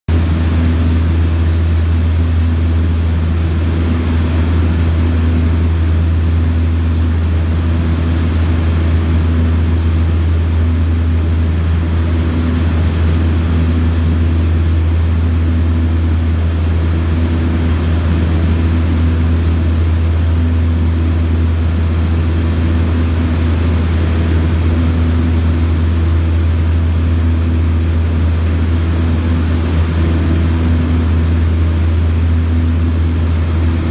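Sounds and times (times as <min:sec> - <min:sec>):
propeller aircraft engines droning: 0:00.1 - 0:33.9.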